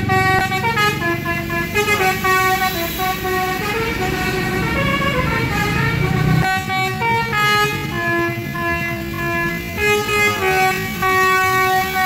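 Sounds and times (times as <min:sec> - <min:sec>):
bus engine running: 0:00.0 - 0:12.0
musical bus horn tune: 0:00.0 - 0:12.0.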